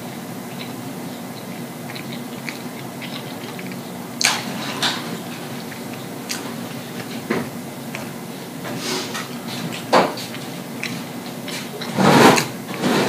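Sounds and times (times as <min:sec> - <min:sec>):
person chewing with open mouth: 0:00.0 - 0:13.0.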